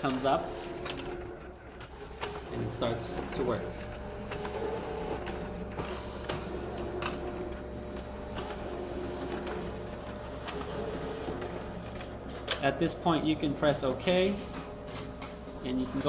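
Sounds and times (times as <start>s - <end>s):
copier mechanical hum: 0.0s - 16.0s.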